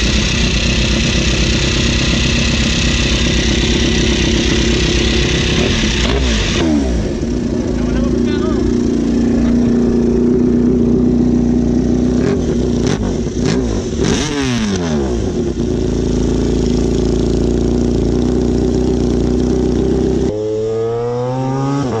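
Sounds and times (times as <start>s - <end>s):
motorcycle idling: 0.0s - 20.7s
motorcycle accelerating: 0.0s - 22.0s.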